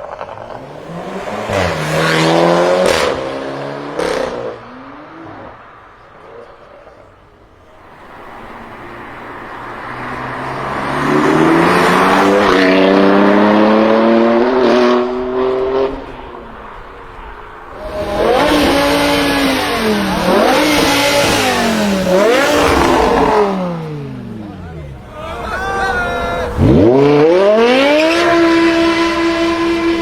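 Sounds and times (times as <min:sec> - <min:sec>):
car engine accelerating hard: 0:00.0 - 0:25.1, 0:26.1 - 0:30.0.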